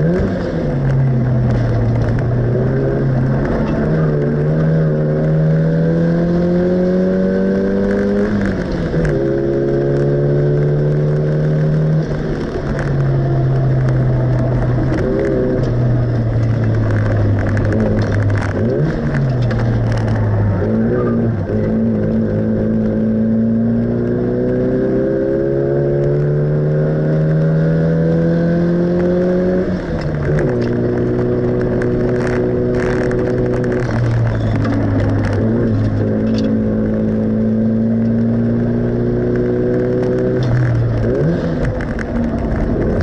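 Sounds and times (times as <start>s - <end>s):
car engine revving: 0.0s - 43.0s
road and wind noise: 0.0s - 43.0s.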